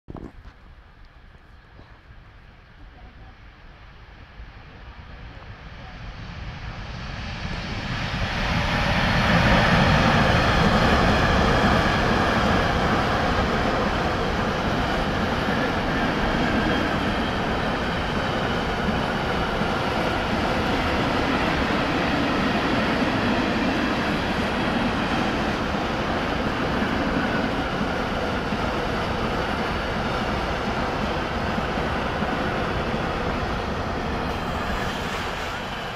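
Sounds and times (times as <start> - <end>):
freight train rolling on rails: 0.3 - 35.9.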